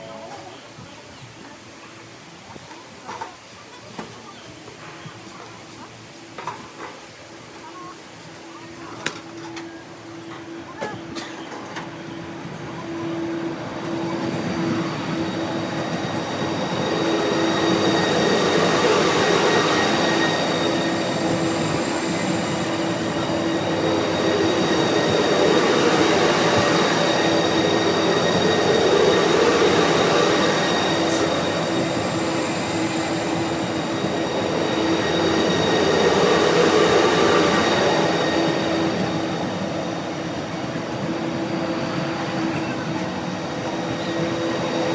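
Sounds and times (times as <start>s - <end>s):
train passing at high speed: 3.9s - 44.9s.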